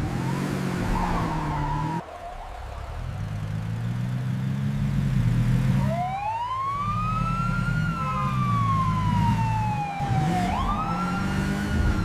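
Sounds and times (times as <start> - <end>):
police siren wailing: 0.0 - 4.0, 5.8 - 12.0
engine hum: 0.0 - 12.0.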